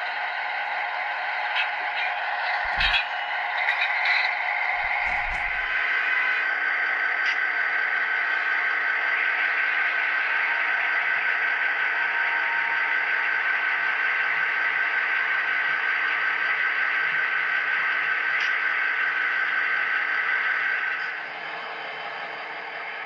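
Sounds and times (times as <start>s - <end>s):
hissy diesel locomotive drone: 0.0s - 23.0s.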